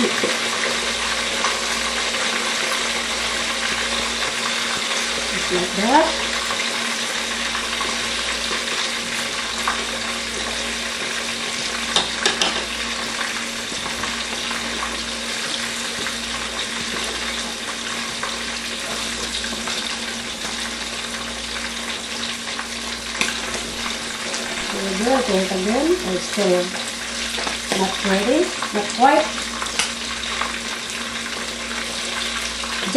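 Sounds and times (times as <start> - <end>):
fish sizzling in hot oil: 0.0 - 32.9.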